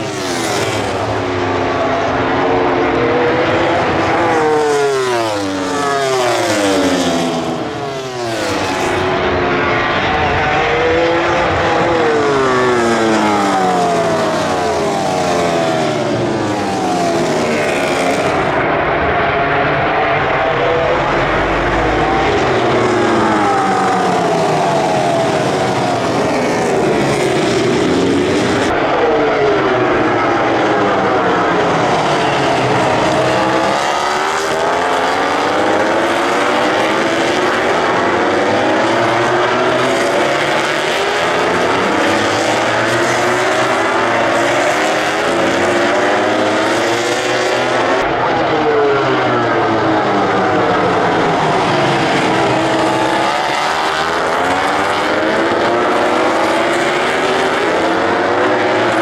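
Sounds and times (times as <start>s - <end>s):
racing motorcycle engines revving past: 0.0s - 59.0s.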